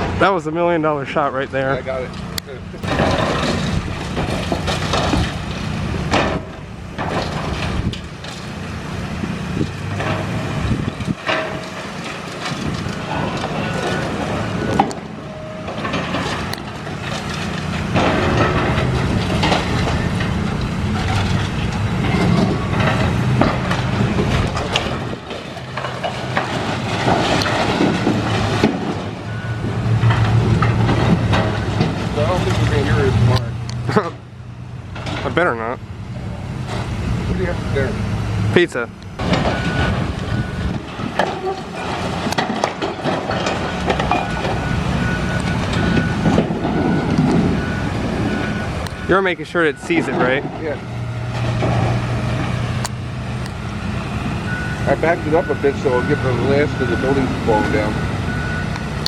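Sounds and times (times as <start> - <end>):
diesel engine running: 0.0 - 59.0
debris cracking and crunching: 1.9 - 34.2, 39.2 - 59.0.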